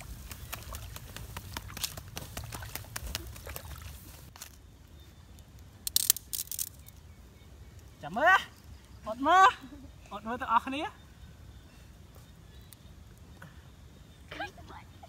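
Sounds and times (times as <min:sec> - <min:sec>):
embers crackling: 0:00.0 - 0:15.0.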